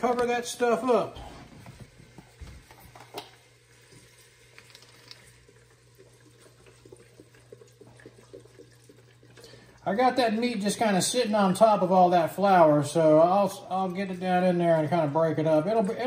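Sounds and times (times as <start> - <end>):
liquid trickling into a pot: 1.8 - 16.0.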